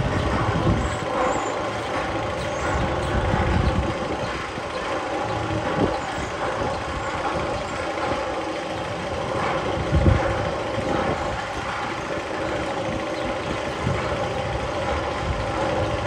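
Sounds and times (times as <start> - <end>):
engine-like mechanical hum: 0.0 - 16.0.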